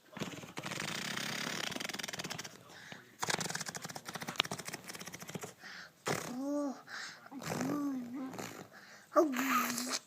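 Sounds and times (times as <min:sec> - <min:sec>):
child blowing raspberries: 0:00.2 - 0:02.5, 0:03.2 - 0:06.8, 0:07.4 - 0:10.0.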